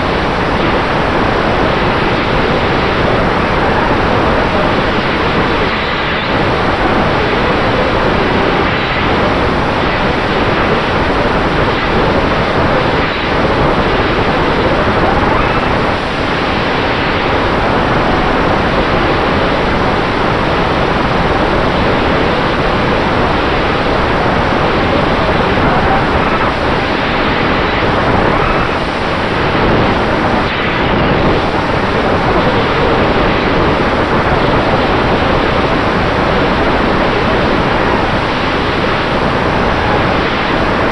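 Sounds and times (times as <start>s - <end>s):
faint steady whine: 0.0s - 40.9s
wind rushing over microphone: 0.0s - 40.9s.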